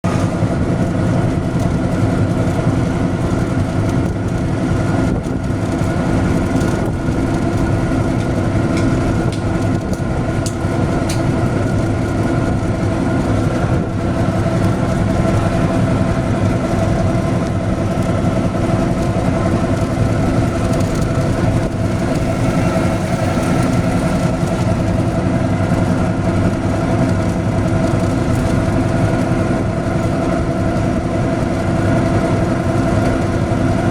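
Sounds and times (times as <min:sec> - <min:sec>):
engine droning steadily: 0:00.0 - 0:33.9.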